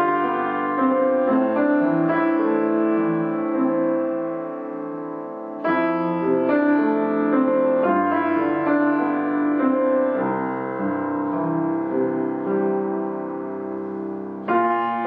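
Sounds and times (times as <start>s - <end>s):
solo piano chords: 0.0s - 15.0s.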